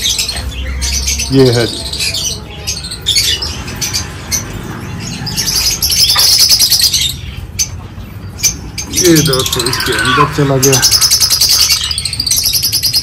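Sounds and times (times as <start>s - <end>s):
cage birds chirping and squawking: 0.0s - 13.0s.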